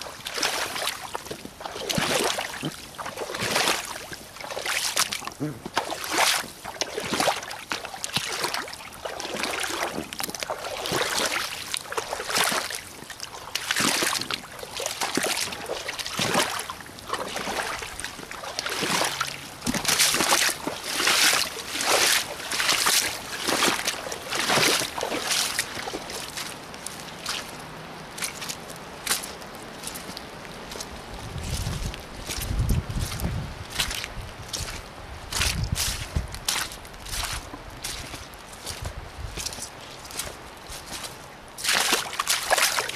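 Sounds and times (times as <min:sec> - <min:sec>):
boots splashing through water: 0:00.0 - 0:42.9
footsteps on leaf litter: 0:00.0 - 0:42.9.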